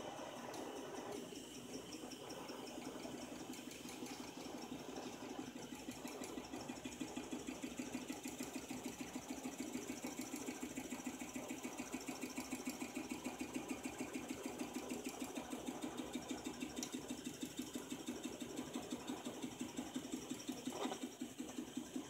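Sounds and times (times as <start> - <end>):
engine mechanical clatter: 0.3 - 22.0.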